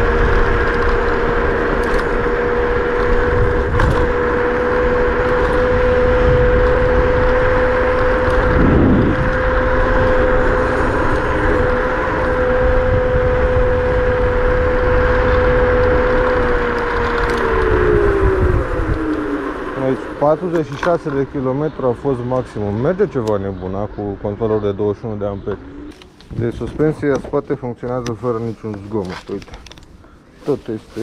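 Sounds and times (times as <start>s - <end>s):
electric scooter motor whine: 0.0s - 26.4s
rumble of wind and tyres: 0.0s - 31.0s.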